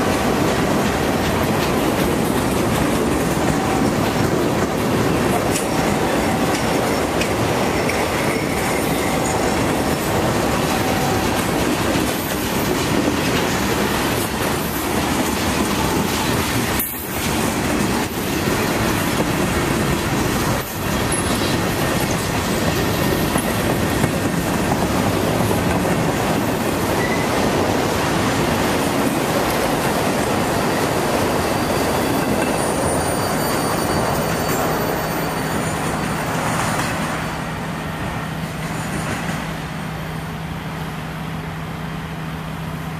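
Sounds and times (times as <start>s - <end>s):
freight train wheels on rails: 0.0s - 42.9s.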